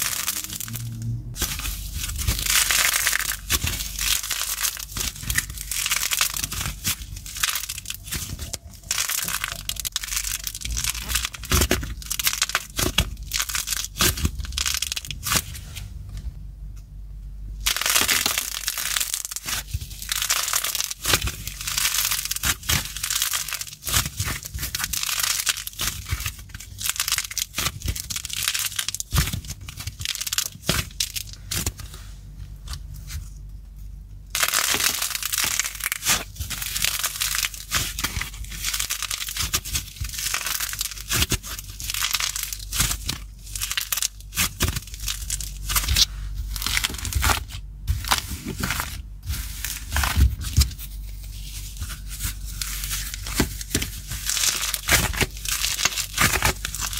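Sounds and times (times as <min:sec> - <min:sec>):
clay crackling and tearing: 0:00.0 - 0:16.2, 0:17.6 - 0:56.9
faint low hum: 0:00.0 - 0:56.9.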